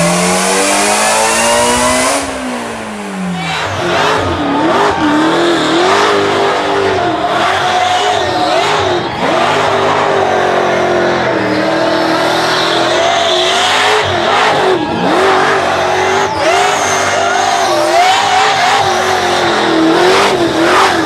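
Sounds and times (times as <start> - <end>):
supercharged car engine revving: 0.0 - 21.0.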